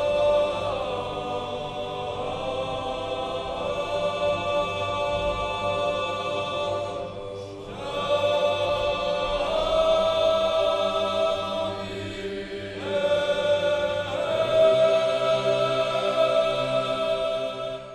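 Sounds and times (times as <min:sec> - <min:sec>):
choir singing a chant: 0:00.0 - 0:17.9.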